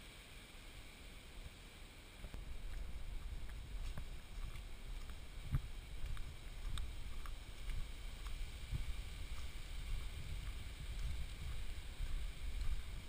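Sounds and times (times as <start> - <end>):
light ticks: 2.2 - 12.8
muffled wind rumble: 2.2 - 13.0.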